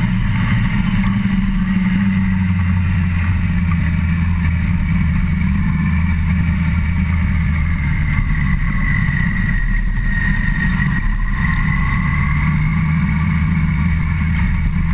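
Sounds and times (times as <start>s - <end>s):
faint whine: 0.0s - 14.9s
motorcycle engine running: 0.0s - 14.9s.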